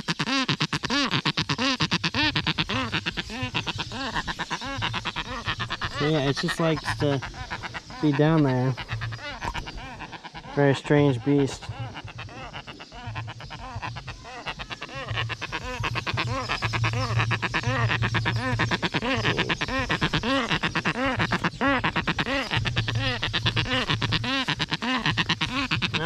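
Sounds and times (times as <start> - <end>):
stork calling in rapid pulses: 0.0 - 26.0.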